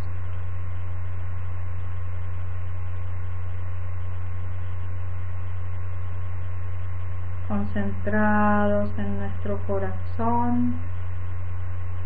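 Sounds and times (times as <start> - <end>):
faint high steady tones: 0.0 - 12.0
low-pitched hum: 0.0 - 12.0.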